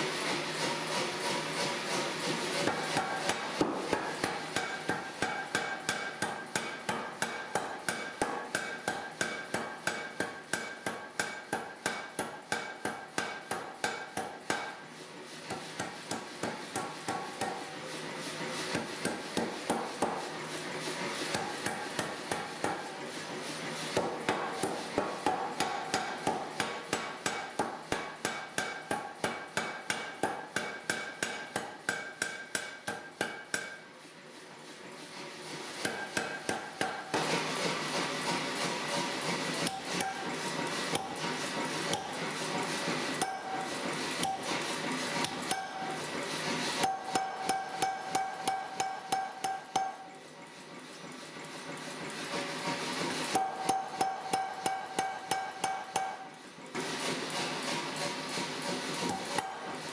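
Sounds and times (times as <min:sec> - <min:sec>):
power hammer blows on steel: 0:00.0 - 0:33.9, 0:35.4 - 0:50.1, 0:52.3 - 0:59.9.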